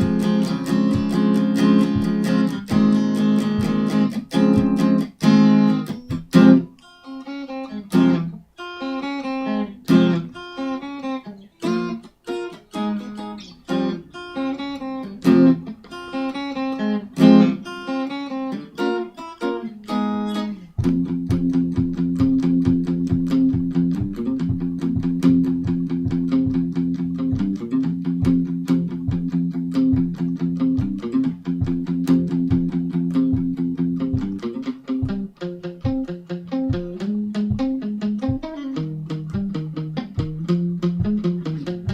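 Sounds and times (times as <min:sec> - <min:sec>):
solo guitar playing: 0:00.0 - 0:41.9.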